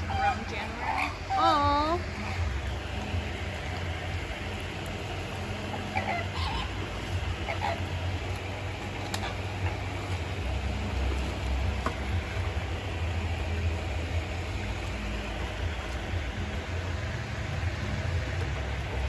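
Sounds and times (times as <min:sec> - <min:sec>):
flamingos honking: 0:00.0 - 0:19.0
outdoor background rumble and hiss: 0:00.0 - 0:19.0.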